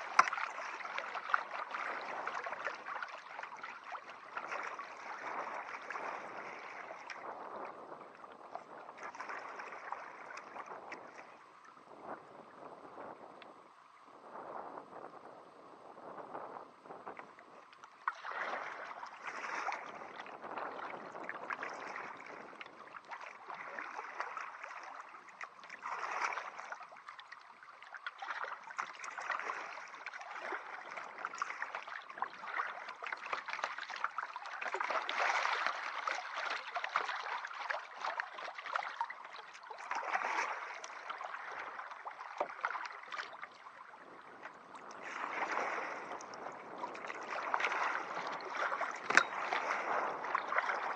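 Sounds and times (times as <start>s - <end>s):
paddle splashes: 0.0s - 50.9s
water splashing against a kayak: 0.0s - 50.9s.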